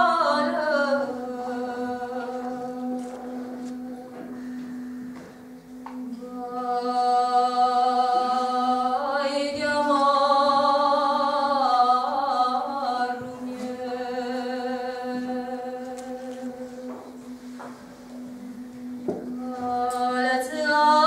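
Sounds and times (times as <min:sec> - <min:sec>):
woman singing a lament: 0:00.0 - 0:04.3, 0:06.0 - 0:17.0, 0:19.3 - 0:21.0
voices humming a low drone: 0:00.0 - 0:21.0.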